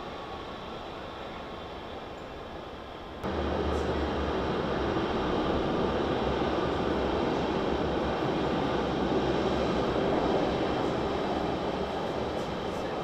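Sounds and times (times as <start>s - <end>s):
metro train rumble and whir: 0.0s - 13.0s.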